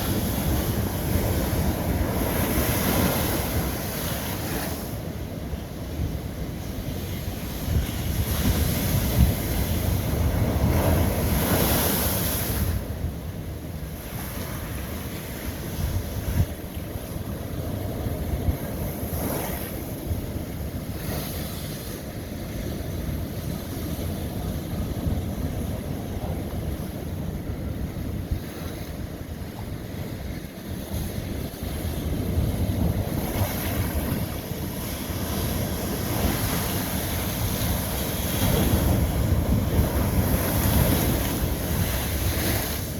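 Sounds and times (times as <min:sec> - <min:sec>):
ocean waves breaking on rock: 0:00.0 - 0:42.9.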